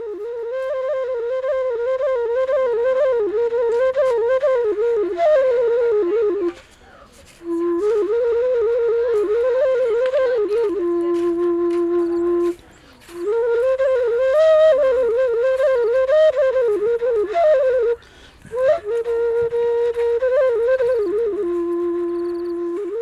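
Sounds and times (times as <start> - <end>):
solo flute melody: 0.0 - 23.0.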